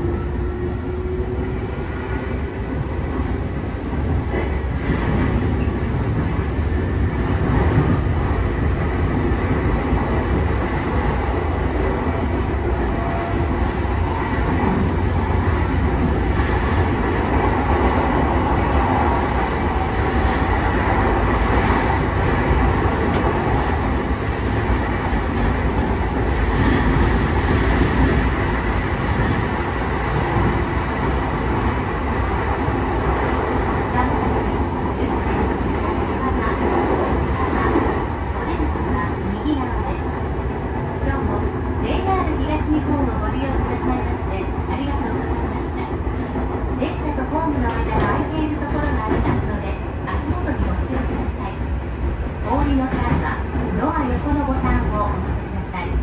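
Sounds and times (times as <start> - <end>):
train interior low rumble: 0.0 - 56.0.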